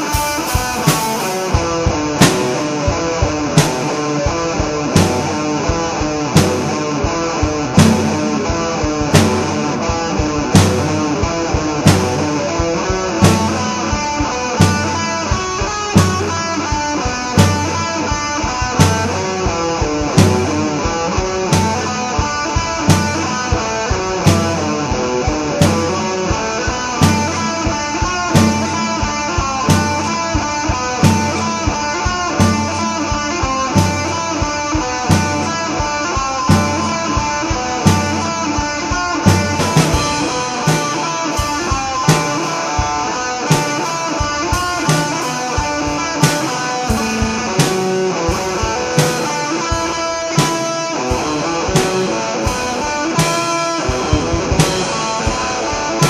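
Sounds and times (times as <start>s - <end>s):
drums with steady beat: 0.0s - 56.0s
electric guitar: 0.0s - 56.0s.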